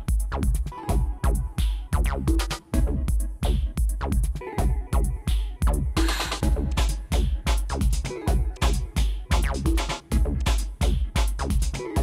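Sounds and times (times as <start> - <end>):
drum machine beat: 0.0 - 12.0
deep bass hits dropping in pitch: 1.4 - 11.6.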